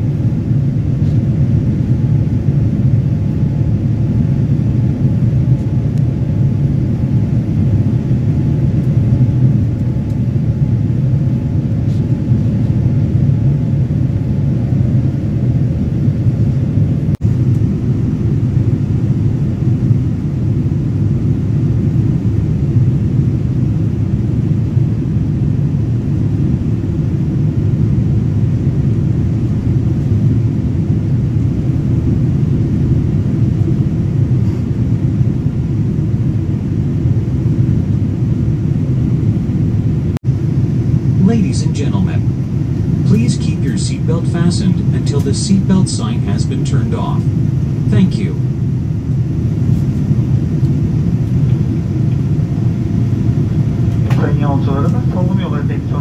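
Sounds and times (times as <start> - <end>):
airplane engines rumbling in cabin: 0.0 - 56.0.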